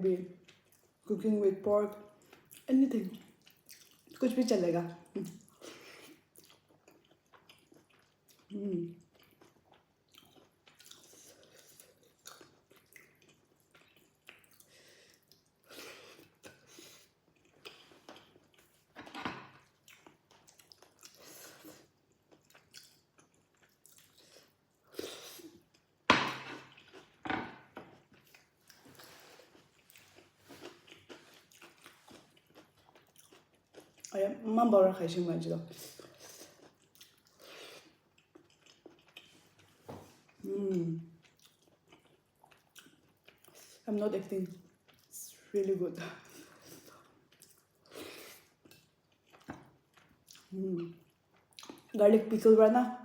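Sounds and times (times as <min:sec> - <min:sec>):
person chewing food: 0:00.3 - 0:01.0, 0:01.9 - 0:04.2, 0:05.0 - 0:34.2, 0:35.7 - 0:43.8, 0:44.5 - 0:45.2, 0:46.0 - 0:52.0.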